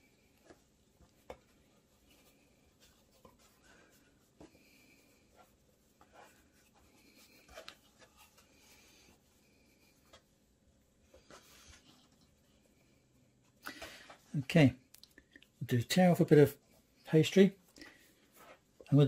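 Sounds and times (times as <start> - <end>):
hands rubbing pastry: 0.0 - 13.7, 16.6 - 19.0.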